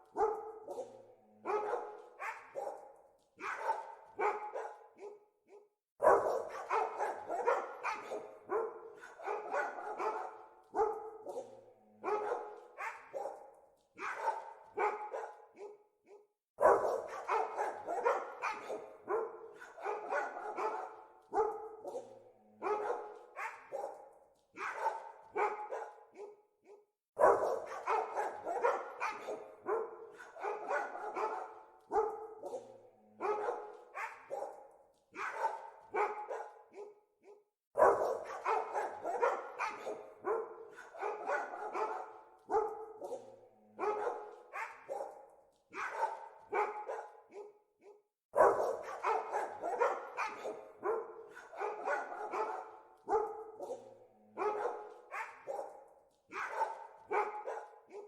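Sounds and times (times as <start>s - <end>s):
dogs barking: 0.0s - 58.0s.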